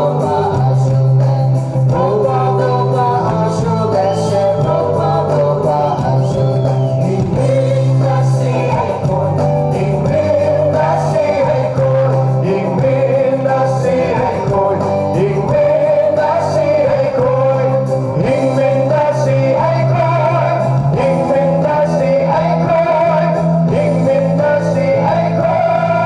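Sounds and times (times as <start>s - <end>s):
group singing into microphones: 0.0s - 26.0s
instrumental backing music: 0.0s - 26.0s.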